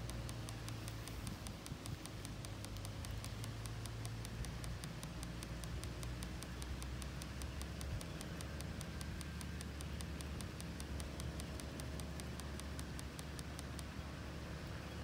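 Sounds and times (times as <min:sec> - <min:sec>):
steady ticking: 0:00.0 - 0:15.0.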